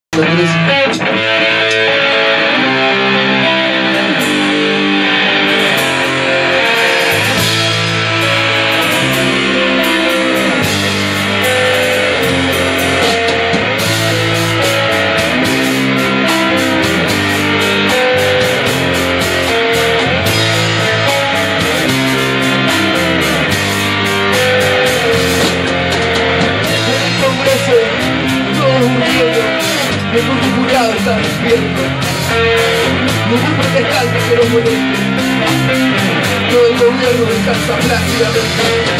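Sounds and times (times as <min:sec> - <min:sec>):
electric guitar held notes: 0:00.1 - 0:38.9
live band music: 0:00.1 - 0:38.9.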